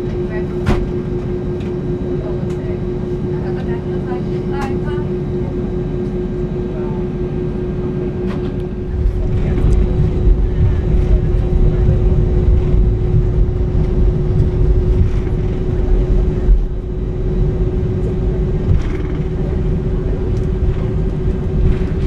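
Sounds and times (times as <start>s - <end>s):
jet engine and airflow rumble: 0.0s - 22.0s
steady hum: 0.0s - 22.0s.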